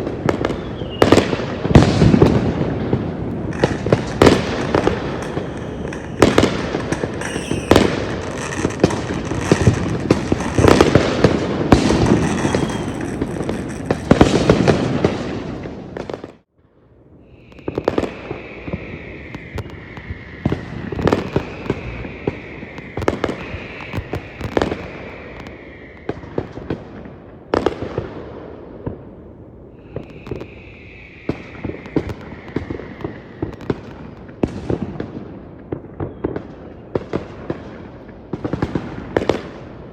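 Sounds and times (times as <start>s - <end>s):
fireworks falling whistles: 0.0s - 16.4s, 17.1s - 28.1s, 29.6s - 39.6s
fireworks bangs and crackles: 0.0s - 16.5s, 17.2s - 39.9s.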